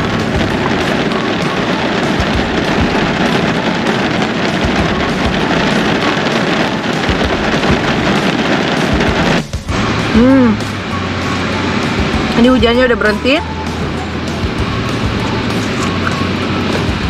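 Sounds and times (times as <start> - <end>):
heavy rain drumming on car roof: 0.0 - 17.0.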